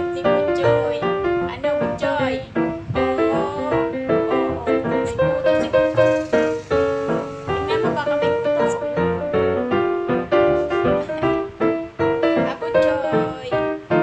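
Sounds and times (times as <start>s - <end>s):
piano tune: 0.0s - 14.0s.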